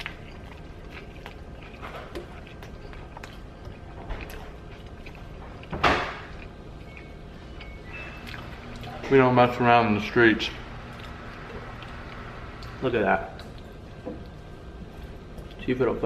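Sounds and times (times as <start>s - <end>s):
person chewing crunchy food: 0.0s - 9.1s, 10.8s - 15.6s.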